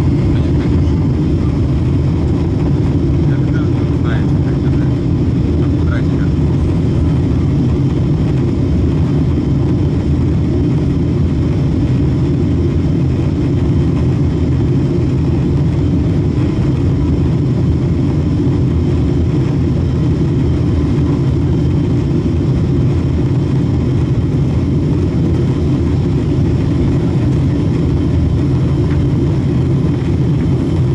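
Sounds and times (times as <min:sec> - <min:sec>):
airliner cabin engine rumble: 0:00.0 - 0:30.9.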